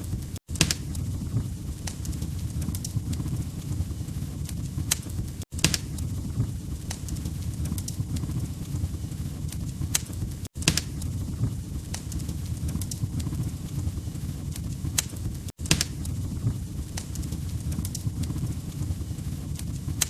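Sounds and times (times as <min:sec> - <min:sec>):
log fire crackling and popping: 0:00.0 - 0:20.0
low rumble of flames: 0:00.0 - 0:20.0.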